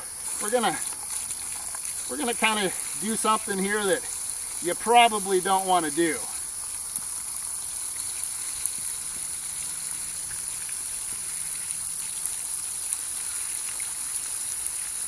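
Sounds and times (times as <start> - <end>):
water pouring from bucket: 0.0 - 15.0
water splashing on grass: 0.0 - 15.0.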